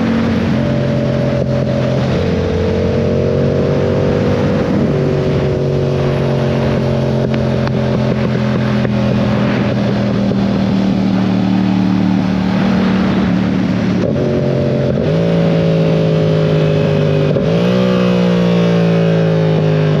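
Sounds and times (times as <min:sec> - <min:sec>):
wind rush: 0:00.0 - 0:17.8
motorcycle engine revving: 0:00.0 - 0:20.0.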